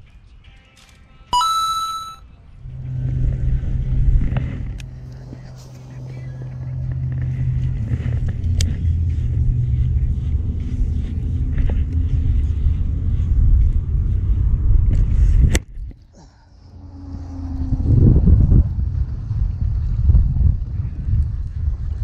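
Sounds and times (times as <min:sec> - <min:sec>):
loud low rumble: 0:02.5 - 0:15.5, 0:16.6 - 0:22.0.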